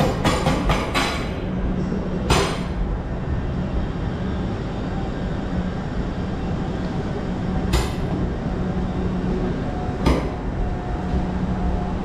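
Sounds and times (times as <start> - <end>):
train rumble and engine hum: 0.0 - 12.0.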